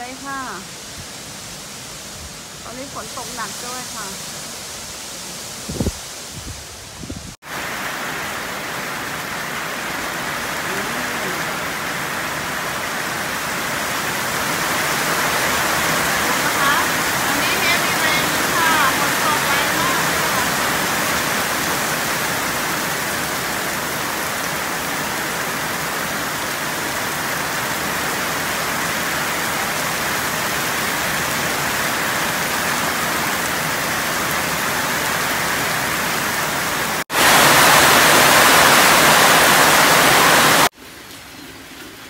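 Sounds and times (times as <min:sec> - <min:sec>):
heavy rain pouring: 0:00.0 - 0:42.0
rain on a metal roof: 0:00.0 - 0:42.0.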